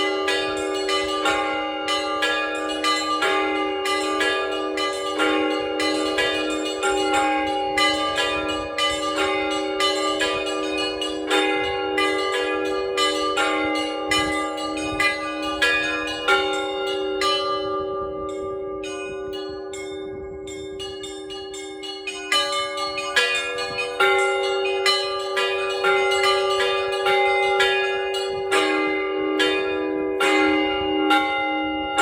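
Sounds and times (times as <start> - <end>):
large bells humming: 0.0 - 32.0.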